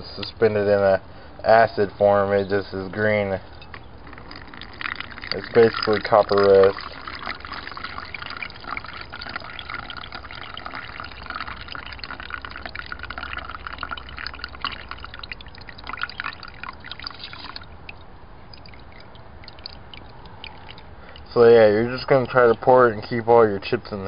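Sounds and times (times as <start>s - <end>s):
liquid trickling and splashing: 3.4s - 24.0s.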